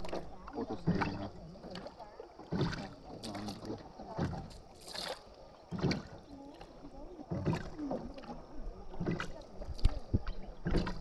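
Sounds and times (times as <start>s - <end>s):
oars pulling through water: 0.0s - 11.0s.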